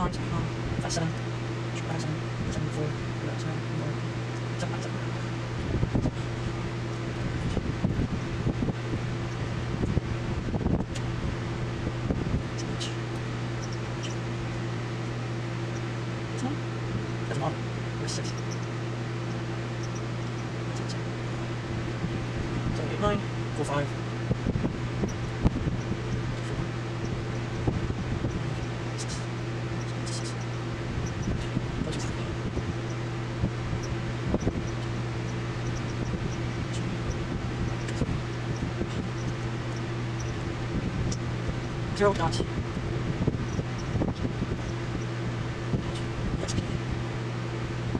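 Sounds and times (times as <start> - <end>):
electric fan humming: 0.0 - 47.9.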